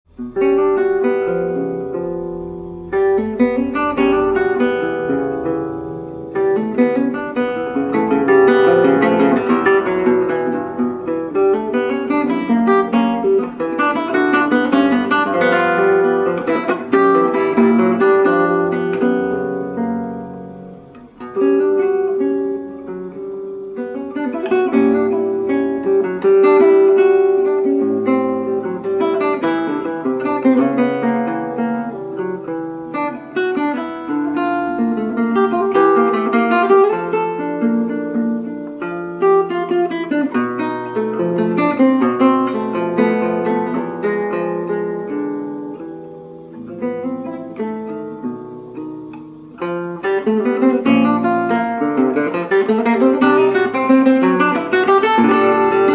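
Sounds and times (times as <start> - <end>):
acoustic guitar instrumental: 0.0 - 55.9.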